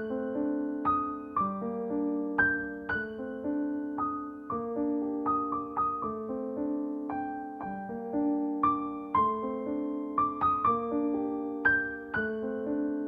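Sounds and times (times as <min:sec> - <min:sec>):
slow gentle solo piano: 0:00.0 - 0:13.0.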